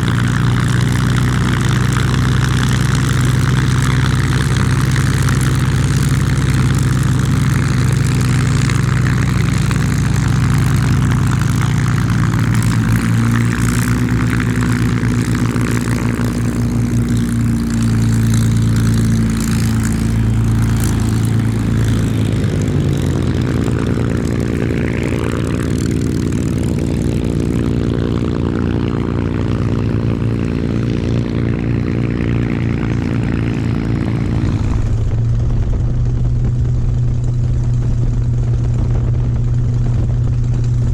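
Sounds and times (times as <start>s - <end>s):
aircraft piston engines running: 0.0s - 40.9s.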